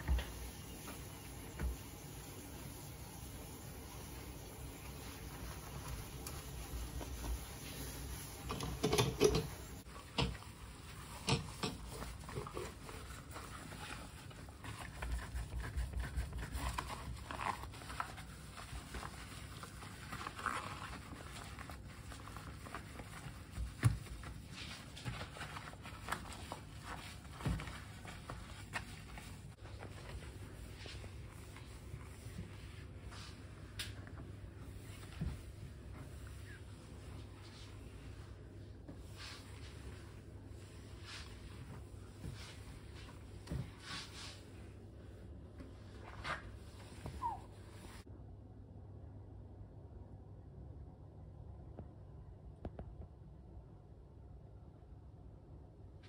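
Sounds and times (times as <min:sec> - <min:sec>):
cloth rubbing a sink: 0:00.0 - 0:48.1.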